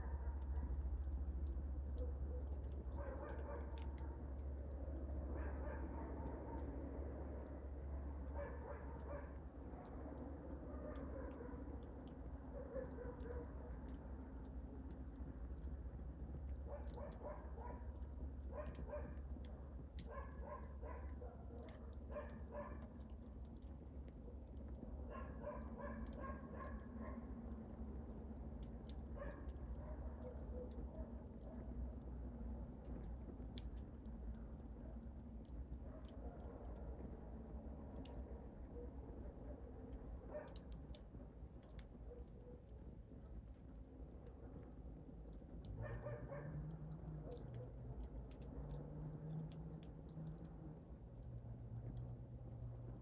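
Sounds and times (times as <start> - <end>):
low steady rumble: 0.0 - 53.0
wood fire crackling: 0.0 - 53.0.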